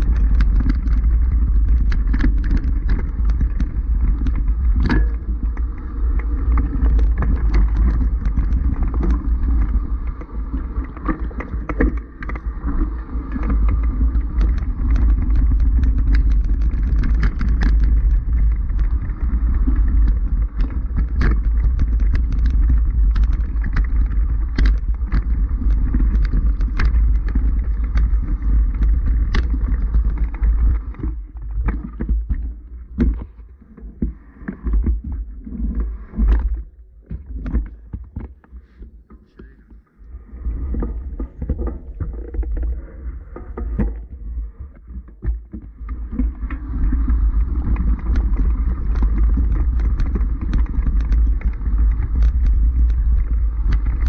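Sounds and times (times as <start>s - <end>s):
wind and motion rumble: 0.0s - 54.0s.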